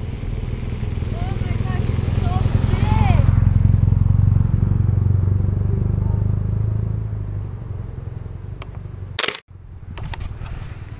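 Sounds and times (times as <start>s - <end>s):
vehicle engine rumble: 0.0s - 10.9s.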